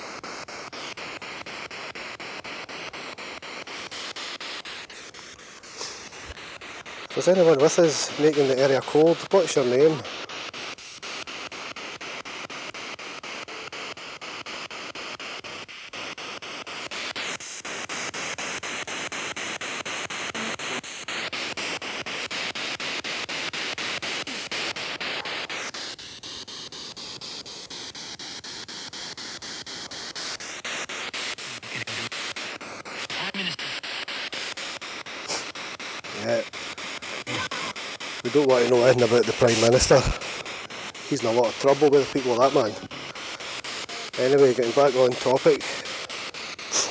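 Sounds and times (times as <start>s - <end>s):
radio static sweeping: 0.0s - 46.9s.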